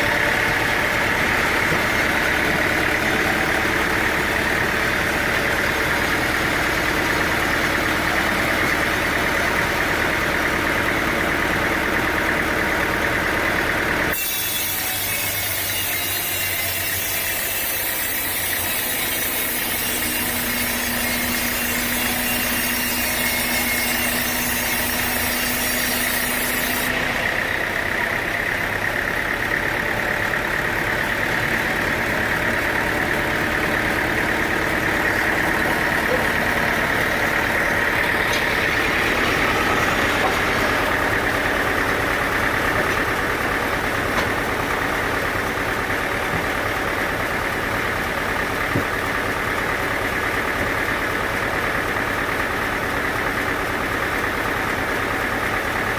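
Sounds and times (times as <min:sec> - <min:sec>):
sawmill machinery hum and whine: 0:00.0 - 0:55.9.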